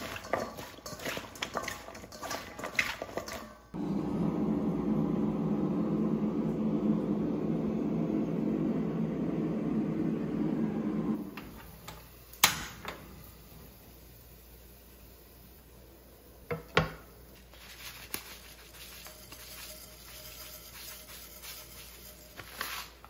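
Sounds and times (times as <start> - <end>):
steady appliance hum: 0.0 - 23.0.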